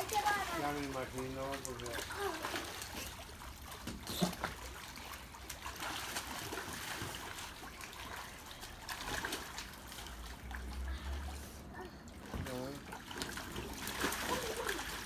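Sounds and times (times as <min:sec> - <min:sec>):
water splashing in a pool: 0:00.0 - 0:15.0.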